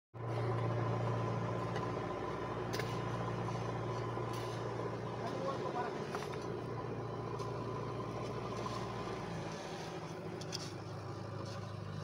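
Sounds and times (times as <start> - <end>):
engine idling: 0.2 - 12.0.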